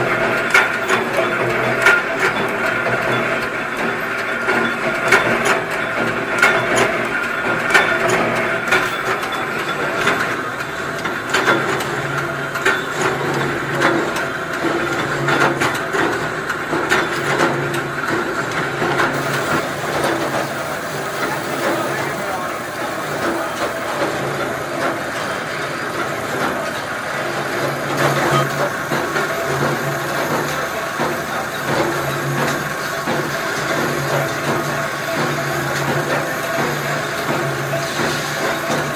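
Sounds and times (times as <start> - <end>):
clicks and clattering parts: 0.0 - 38.9
machinery humming: 0.0 - 38.9.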